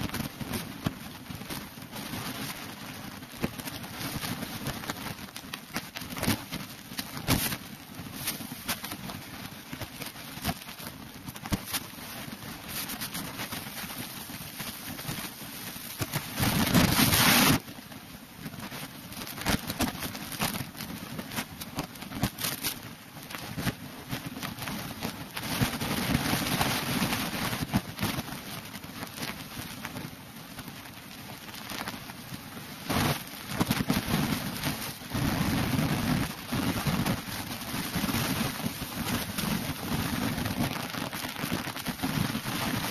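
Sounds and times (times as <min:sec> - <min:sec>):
wind noise on microphone: 0:00.0 - 0:42.9.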